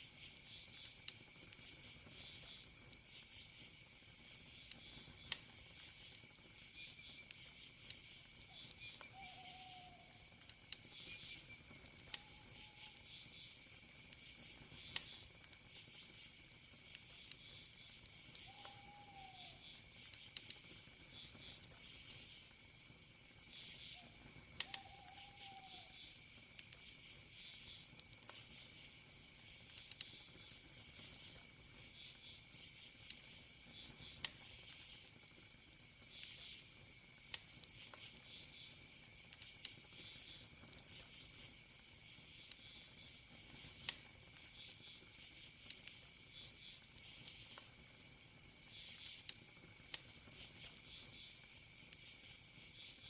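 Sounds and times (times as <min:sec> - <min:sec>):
campfire crackling and popping: 0:00.0 - 0:53.0
crickets chirping: 0:00.0 - 0:53.0.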